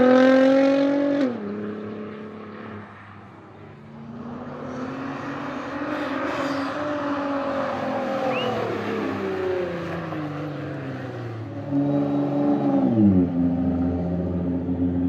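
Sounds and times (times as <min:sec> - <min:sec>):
car engine driving past: 0:00.0 - 0:14.8.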